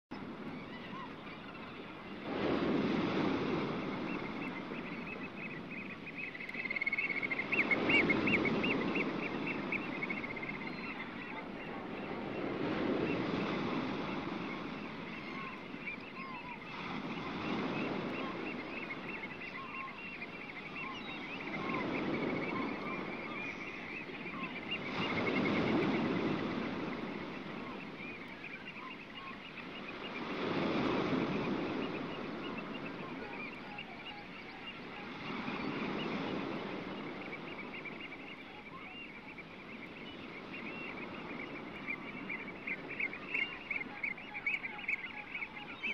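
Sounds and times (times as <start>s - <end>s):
surf washing in and out: 0.1s - 45.9s.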